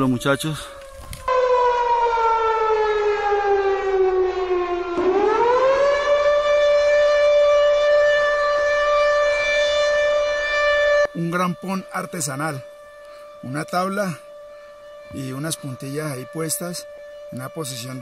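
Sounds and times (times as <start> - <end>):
siren-like wailing tone: 0.0 - 18.0.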